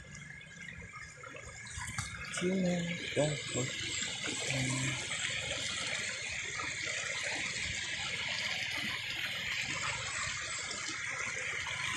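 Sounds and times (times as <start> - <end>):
river water flowing over rocks: 0.0 - 11.9.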